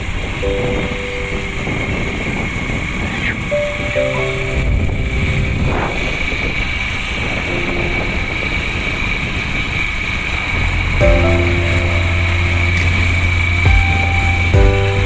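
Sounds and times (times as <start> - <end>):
motorcycle road and wind noise: 0.0 - 15.0.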